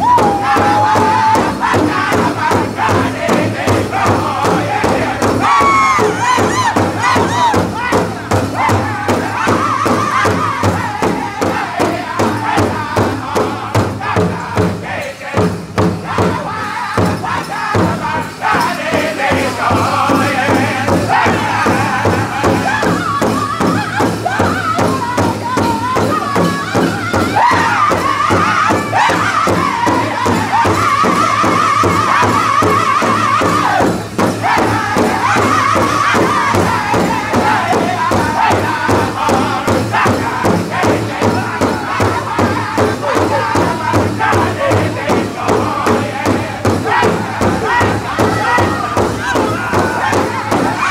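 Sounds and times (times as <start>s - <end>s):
drum group singing together: 0.0s - 50.9s
large hide drum beat: 0.0s - 50.9s.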